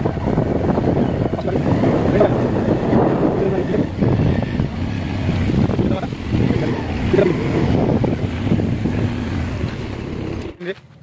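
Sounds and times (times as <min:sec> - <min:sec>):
wind on microphone: 0:00.0 - 0:10.5
auto-rickshaw engine running: 0:00.0 - 0:11.0
road rumble: 0:00.0 - 0:11.0.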